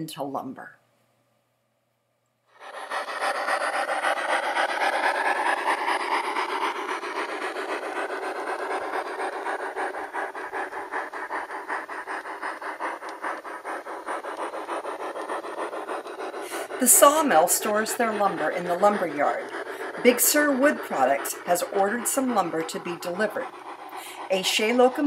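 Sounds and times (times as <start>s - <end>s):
model steam locomotive chuffing: 2.6s - 25.0s.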